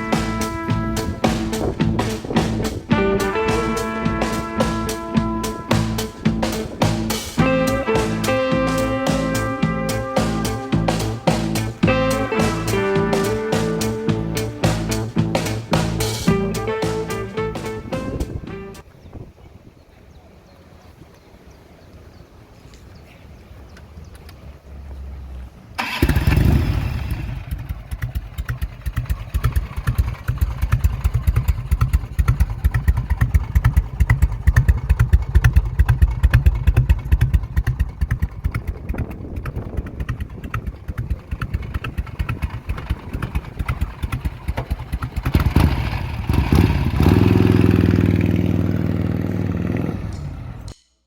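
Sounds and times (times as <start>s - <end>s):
motorcycle engine idling and revving: 0.0s - 18.8s, 25.8s - 50.8s.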